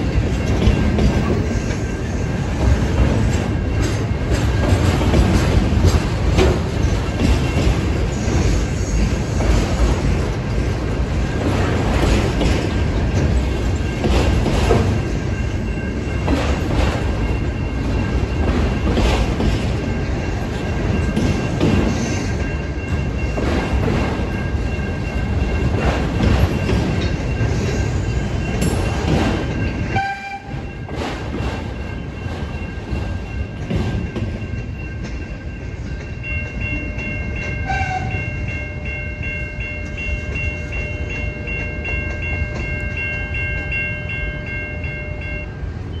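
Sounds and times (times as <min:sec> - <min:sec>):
train wheels clattering over rail: 0:00.0 - 0:38.2.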